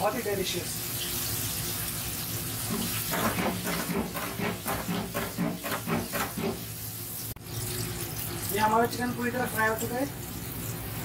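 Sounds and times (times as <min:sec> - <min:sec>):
oil bubbling in deep fryer: 0:00.0 - 0:11.0.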